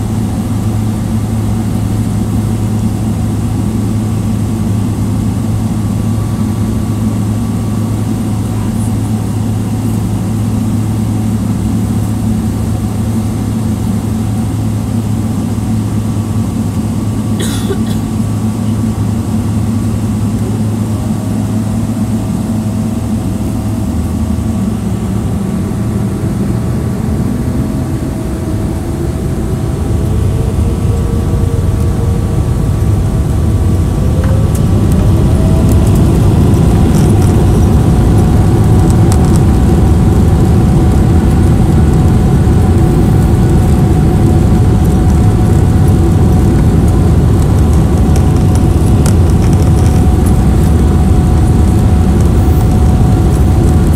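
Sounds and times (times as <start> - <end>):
jet engines spooling up: 0.0 - 53.9
rising engine whine: 0.0 - 53.9.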